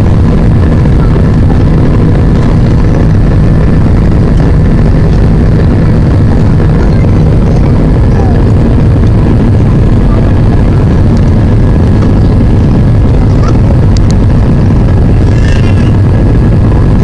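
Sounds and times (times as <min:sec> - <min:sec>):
jet engine drone: 0:00.0 - 0:17.0
rushing airflow: 0:00.0 - 0:17.0.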